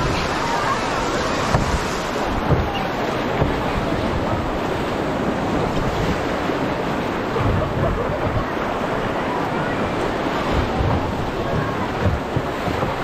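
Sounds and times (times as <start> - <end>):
whitewater rushing: 0.0 - 13.0
wind buffeting microphone: 0.0 - 13.0.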